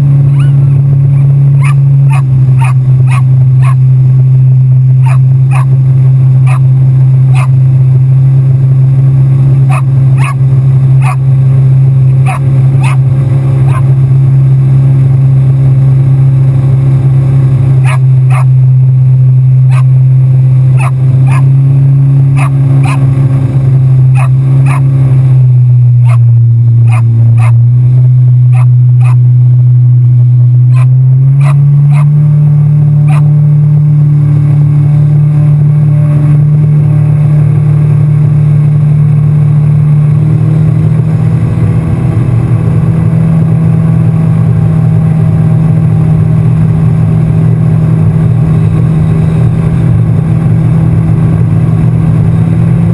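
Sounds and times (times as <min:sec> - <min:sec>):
personal watercraft engine drone: 0:00.0 - 0:52.9.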